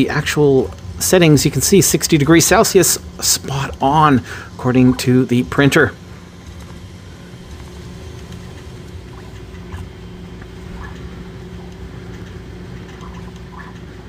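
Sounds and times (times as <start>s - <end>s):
printer fans and motors humming: 0.0s - 14.0s.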